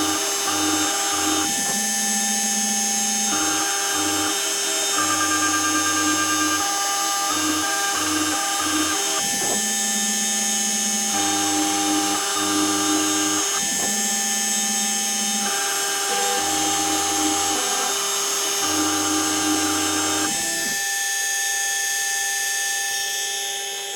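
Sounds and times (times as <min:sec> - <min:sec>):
spindle high whine: 0:00.0 - 0:23.9.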